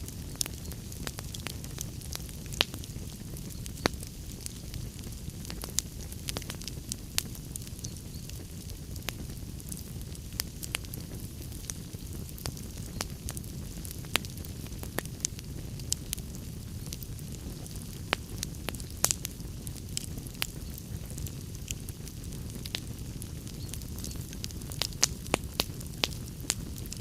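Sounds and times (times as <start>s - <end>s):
burning logs low noise: 0.0s - 27.0s
fire pops and snaps: 0.0s - 27.0s.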